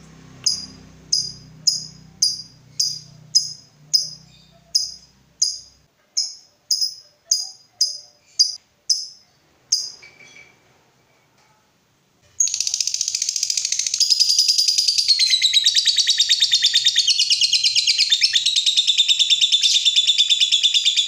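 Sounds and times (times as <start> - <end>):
lovebird high-pitched chirps: 0.4 - 10.5, 12.4 - 21.0.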